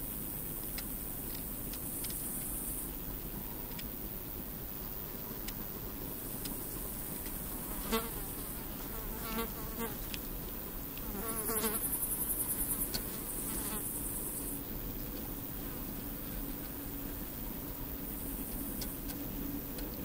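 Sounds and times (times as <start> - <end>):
flying insects buzzing past: 0.0 - 20.0
high-pitched insect stridulation: 0.0 - 20.0.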